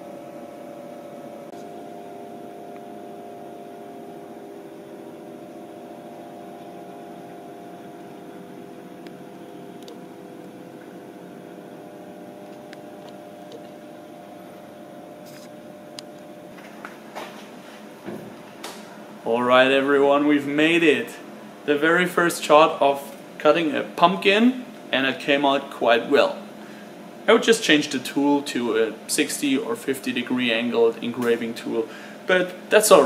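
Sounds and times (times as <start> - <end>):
steady hum with held tones: 0.0 - 33.0.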